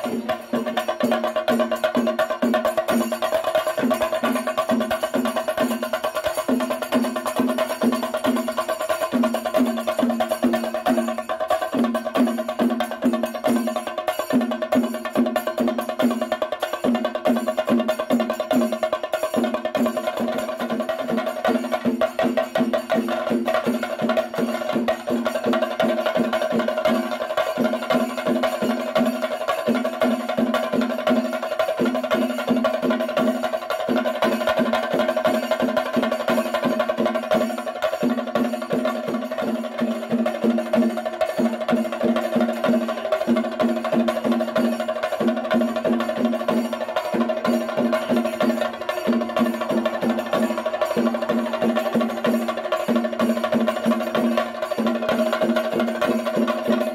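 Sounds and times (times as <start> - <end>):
drums played with sticks: 0.0 - 56.9.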